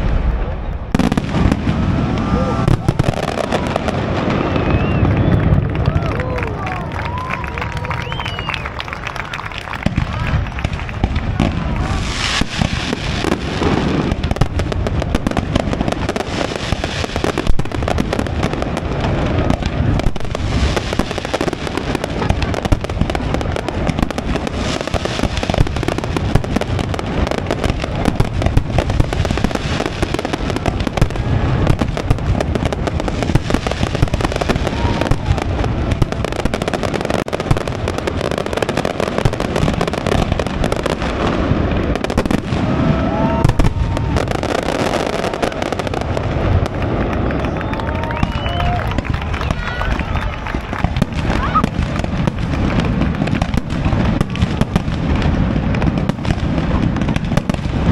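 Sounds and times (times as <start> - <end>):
fireworks bangs and crackling: 0.0 - 57.9.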